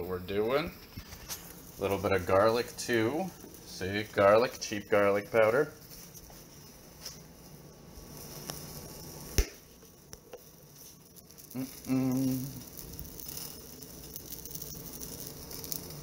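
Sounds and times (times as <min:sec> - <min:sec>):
eggs frying in a pan: 0:00.0 - 0:16.0.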